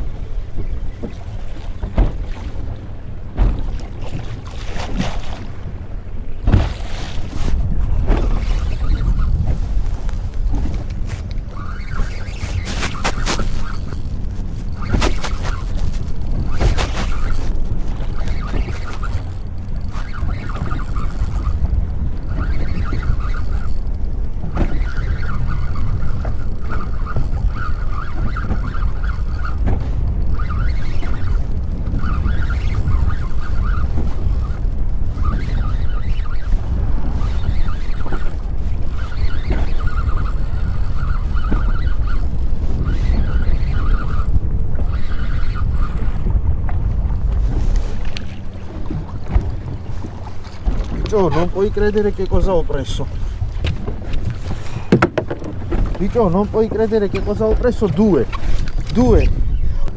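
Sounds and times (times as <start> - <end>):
mid-pitched whirring: 0.0 - 59.9
wind buffeting microphone: 0.0 - 59.9.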